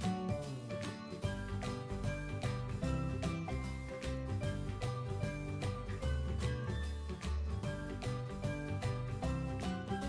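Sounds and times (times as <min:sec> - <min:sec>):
instrumental music with bass: 0:00.0 - 0:10.0.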